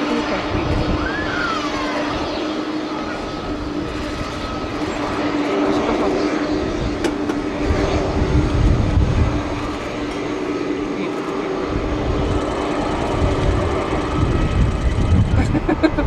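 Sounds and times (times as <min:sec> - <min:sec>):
jet engines whining and rumbling: 0:00.0 - 0:16.0.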